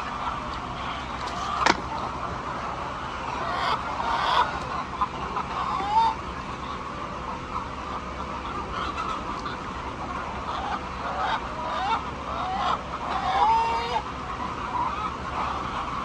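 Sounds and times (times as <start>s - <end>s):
chickens clucking: 0.1s - 16.0s.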